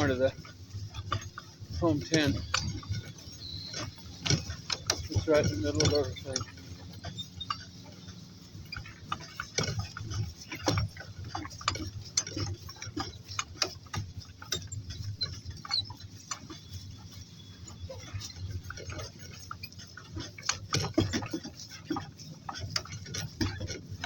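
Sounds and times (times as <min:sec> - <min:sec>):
footsteps clicking and knocking: 0:00.0 - 0:24.0.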